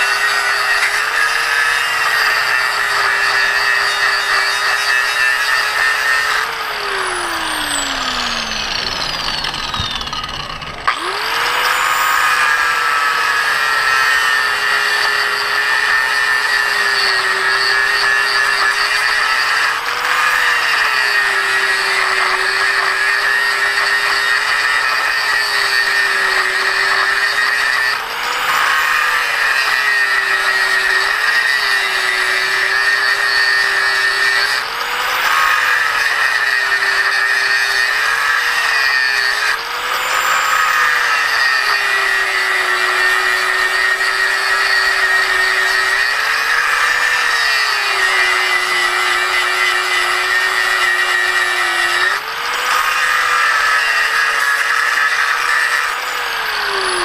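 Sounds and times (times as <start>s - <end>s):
angle grinder cutting copper: 0.0s - 57.0s.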